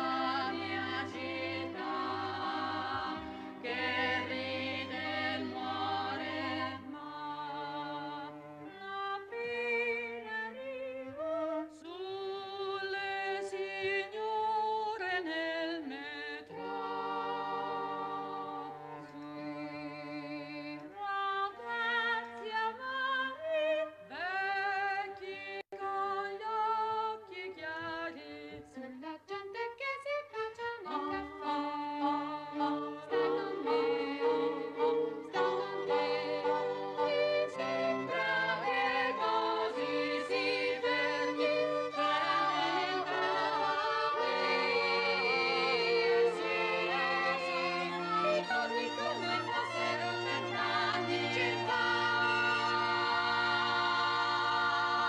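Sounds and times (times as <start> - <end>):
vocal ensemble singing in harmony: 0.0 - 55.0.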